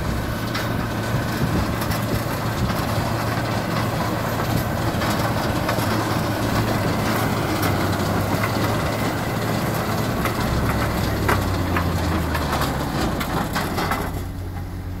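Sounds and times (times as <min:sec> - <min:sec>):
planter clattering: 0:00.0 - 0:15.0
tractor engine droning: 0:00.0 - 0:15.0.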